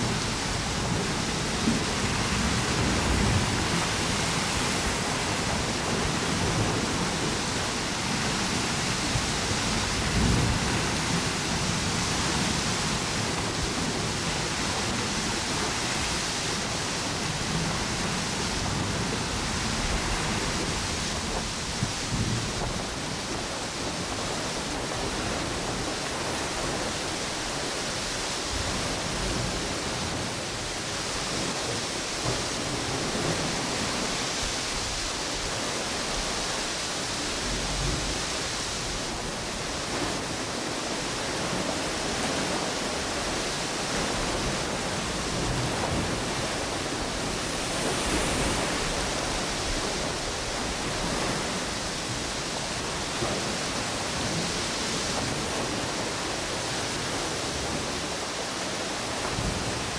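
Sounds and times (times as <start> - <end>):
ocean waves on a beach: 0.0 - 59.9
wind: 0.0 - 59.9.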